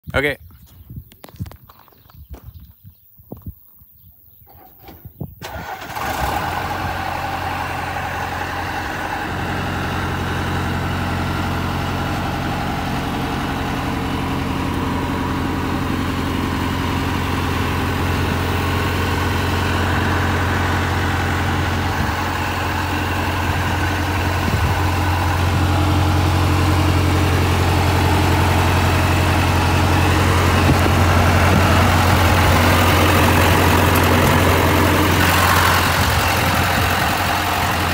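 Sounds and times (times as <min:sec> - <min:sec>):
engine starting and idling: 0:04.5 - 0:37.9.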